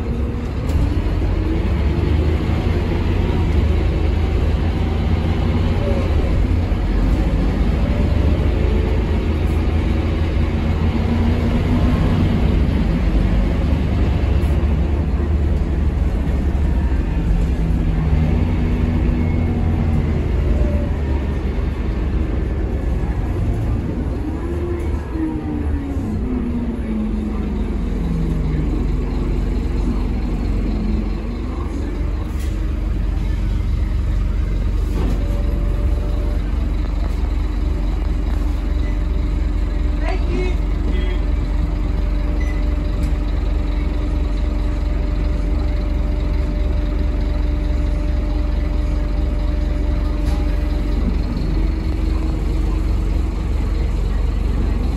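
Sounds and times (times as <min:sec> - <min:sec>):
bus diesel engine rumble: 0:00.0 - 0:54.9
road noise: 0:00.0 - 0:54.9.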